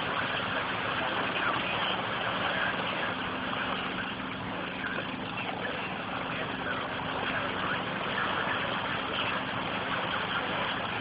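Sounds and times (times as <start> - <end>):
small boat motor running: 0.0 - 11.0.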